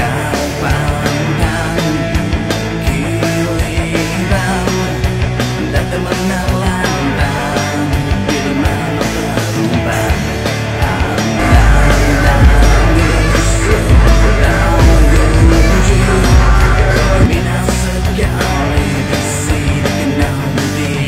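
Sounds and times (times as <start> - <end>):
deep bass: 0.0 - 21.0
dense loud music: 0.0 - 21.0.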